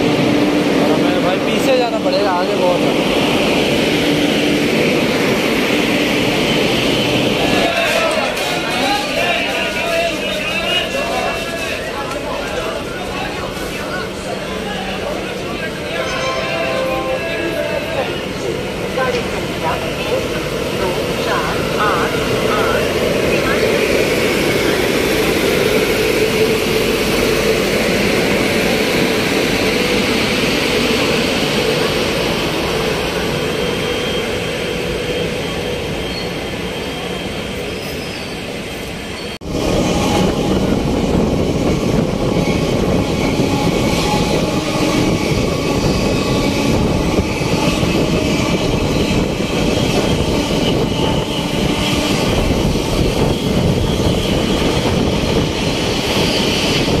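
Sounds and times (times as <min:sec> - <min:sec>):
train wheels rumbling on rails: 0:00.0 - 0:15.8, 0:18.3 - 0:57.0.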